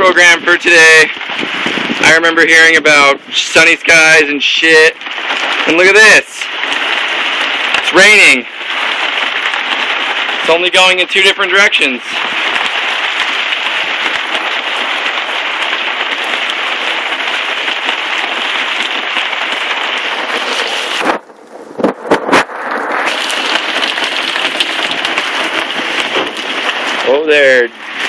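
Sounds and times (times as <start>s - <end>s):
heavy rain hissing: 0.0s - 28.0s
sharp pops: 0.0s - 28.0s.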